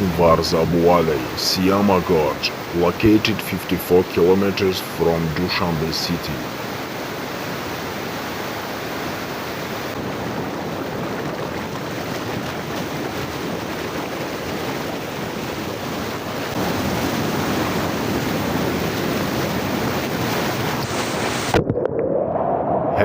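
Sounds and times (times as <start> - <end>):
river water rushing: 0.0 - 21.5.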